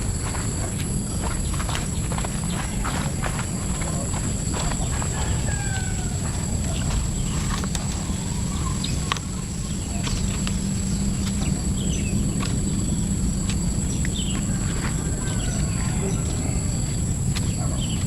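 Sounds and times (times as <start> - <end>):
high-pitched whine: 0.0 - 18.0
steady low rumble: 0.0 - 18.0
bird chirps: 1.2 - 13.1, 13.8 - 18.0.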